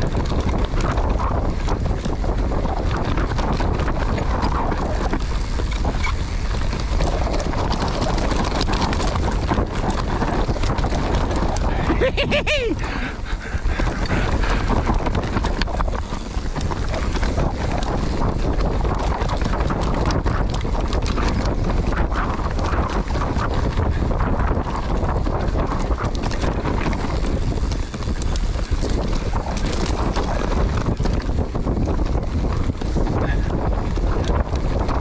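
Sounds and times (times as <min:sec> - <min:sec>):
bike rattling over bumps: 0:00.0 - 0:35.0
tyres rolling over dirt: 0:00.0 - 0:35.0
wind buffeting microphone: 0:00.0 - 0:35.0.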